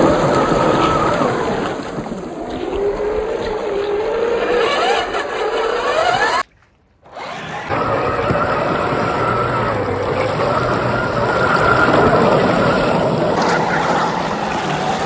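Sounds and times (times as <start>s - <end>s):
electric motor whine: 0.0s - 6.4s, 7.1s - 15.0s
water splashing: 0.0s - 15.0s.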